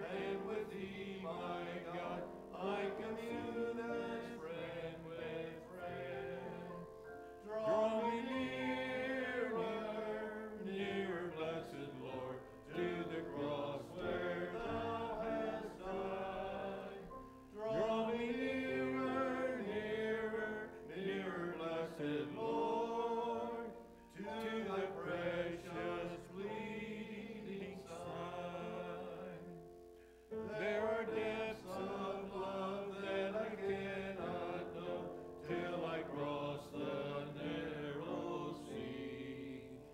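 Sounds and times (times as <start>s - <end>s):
hymn singing: 0.0s - 39.9s.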